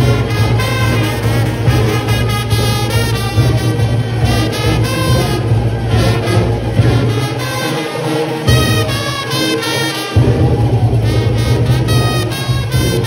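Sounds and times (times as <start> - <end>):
brass band playing: 0.0 - 13.0
trumpets: 0.0 - 13.0.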